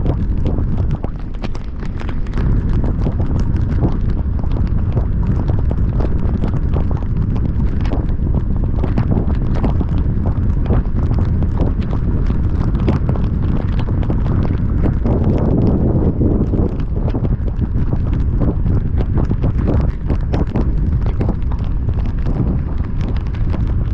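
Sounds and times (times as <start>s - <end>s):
car driving rumble: 0.0s - 23.9s
heavy rain on car: 0.0s - 23.9s.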